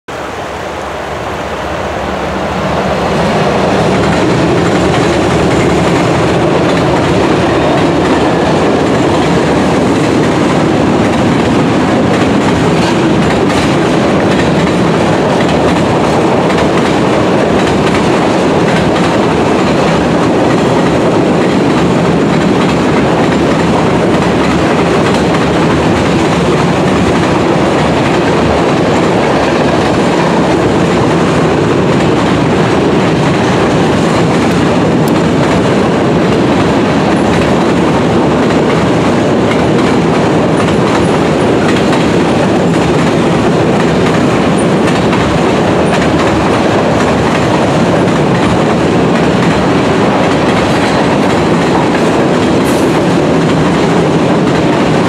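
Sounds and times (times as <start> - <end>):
freight train on steel bridge: 0.1 - 55.0.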